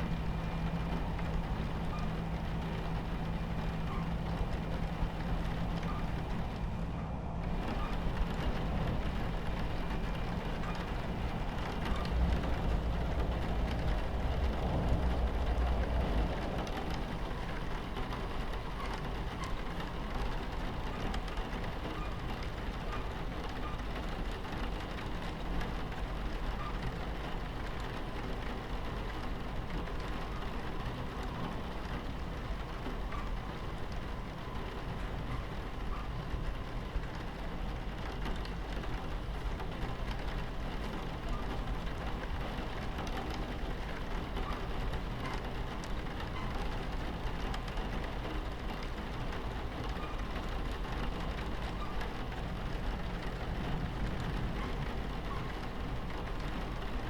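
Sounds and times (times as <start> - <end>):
rain on carriage window: 0.0 - 57.0
train rumbling on tracks: 0.0 - 57.0.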